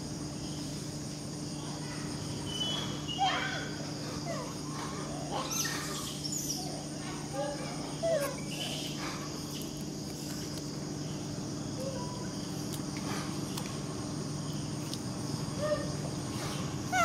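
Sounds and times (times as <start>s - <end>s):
insect chorus buzzing: 0.0s - 17.0s
low steady hum: 0.0s - 17.0s.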